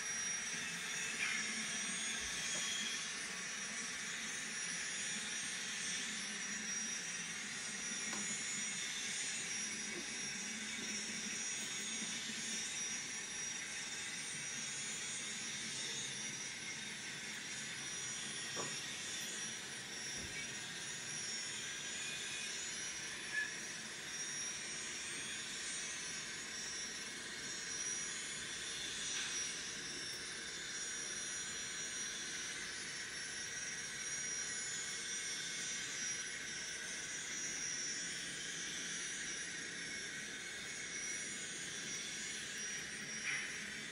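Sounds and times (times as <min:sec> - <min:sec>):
model locomotive turbine whine and hiss: 0:00.0 - 0:43.9.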